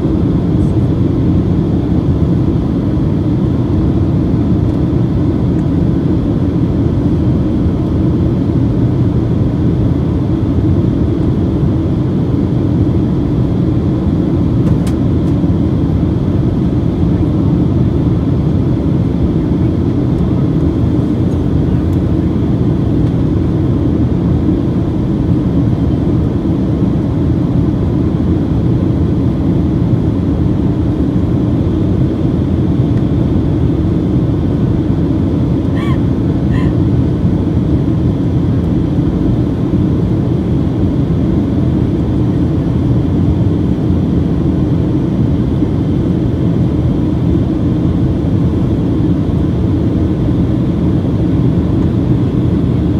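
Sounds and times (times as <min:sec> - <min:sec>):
jet engines humming: 0:00.0 - 0:52.9.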